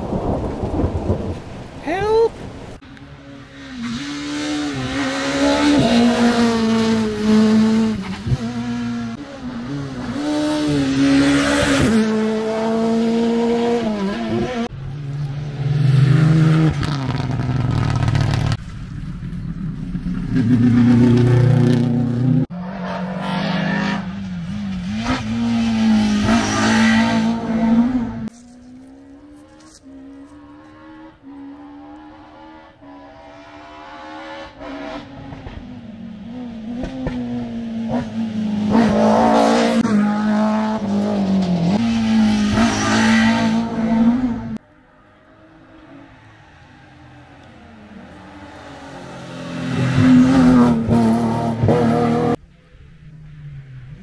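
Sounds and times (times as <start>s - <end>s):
rally car engines revving: 3.0s - 18.6s, 19.3s - 44.6s, 45.2s - 54.0s.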